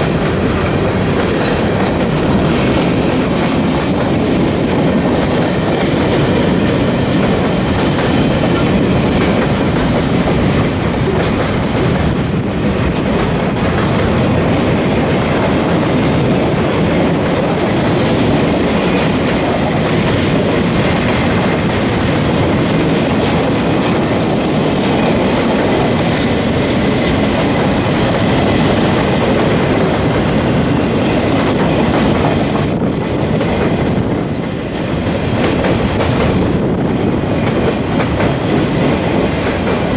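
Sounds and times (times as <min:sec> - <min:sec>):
diesel locomotive engines: 0:00.0 - 0:39.9
train wheels clattering on rails: 0:00.0 - 0:39.9.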